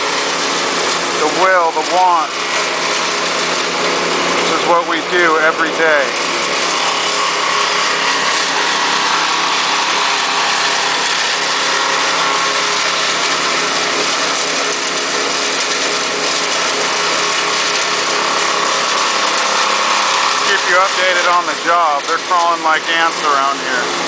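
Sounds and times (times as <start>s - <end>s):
heavy machinery engine running: 0.0s - 24.0s.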